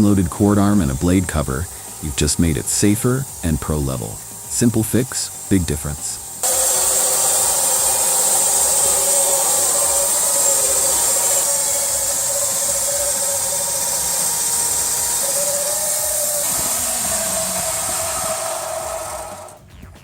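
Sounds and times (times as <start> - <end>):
bandsaw cutting wood: 0.0 - 19.6.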